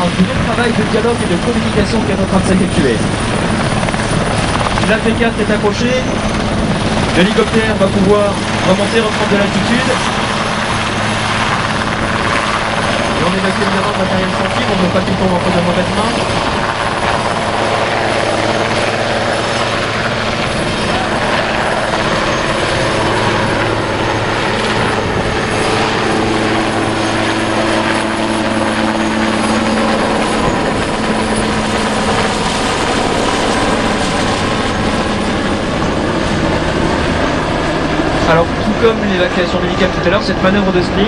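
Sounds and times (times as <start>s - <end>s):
helicopter rotor and turbines: 0.0s - 41.0s.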